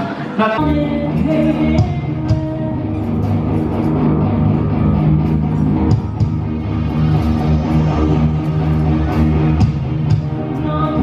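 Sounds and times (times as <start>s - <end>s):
bass guitar: 0.6s - 11.0s
strummed electric guitar: 0.6s - 11.0s.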